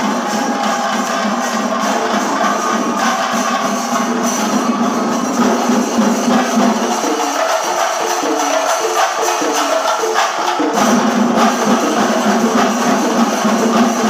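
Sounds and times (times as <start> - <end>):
drums playing fast beat: 0.0 - 14.0.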